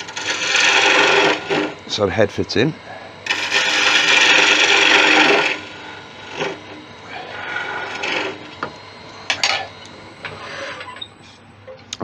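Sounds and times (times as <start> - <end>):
lathe tool rasping cut: 0.0 - 11.0.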